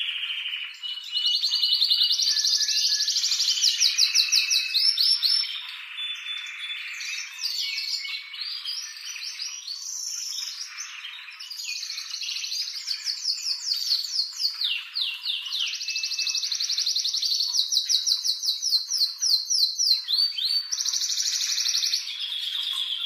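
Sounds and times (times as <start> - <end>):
canary singing trills: 0.0 - 23.0.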